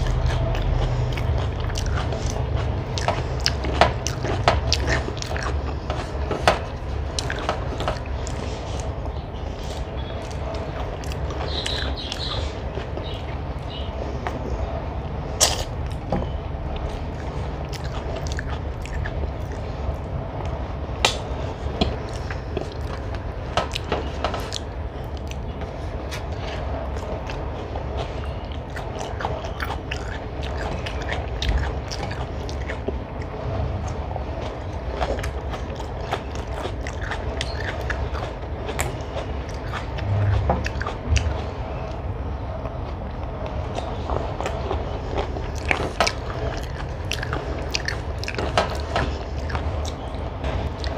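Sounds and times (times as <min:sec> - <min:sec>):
person chewing and biting food: 0:00.0 - 0:13.8, 0:15.4 - 0:42.0, 0:43.1 - 0:50.9
steady low hum: 0:00.0 - 0:50.9.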